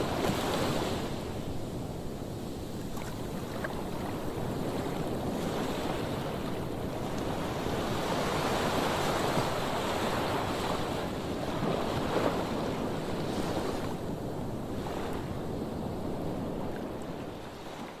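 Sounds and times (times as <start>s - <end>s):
surf breaking on a beach: 0.0s - 18.0s.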